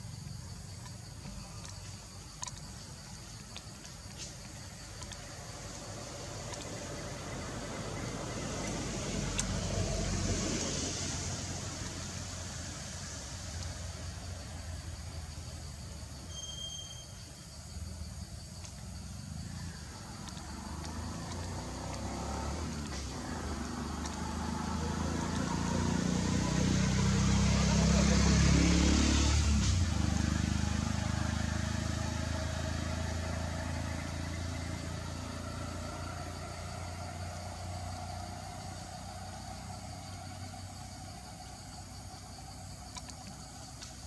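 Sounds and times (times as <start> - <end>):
motor vehicle passing by: 1.7 - 15.8, 18.6 - 44.0.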